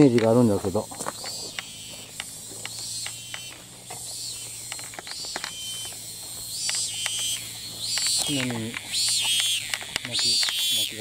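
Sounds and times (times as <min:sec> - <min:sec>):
cicada chirp: 0:00.0 - 0:11.0
cicada clicking: 0:00.0 - 0:11.0.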